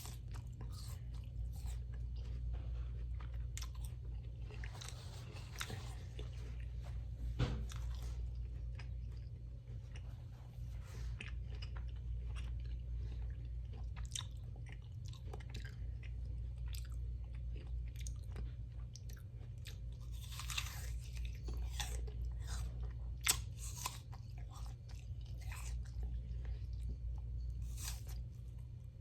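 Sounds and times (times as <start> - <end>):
chewing and crunching food: 0.0 - 29.0.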